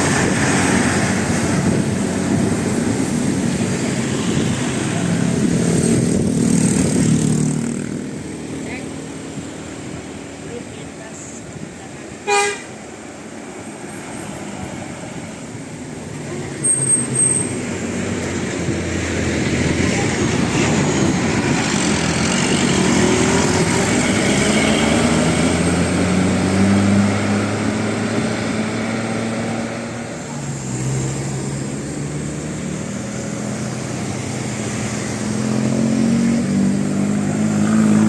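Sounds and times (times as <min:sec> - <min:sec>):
bus engine passing: 0:00.0 - 0:38.0
road noise: 0:00.0 - 0:38.0.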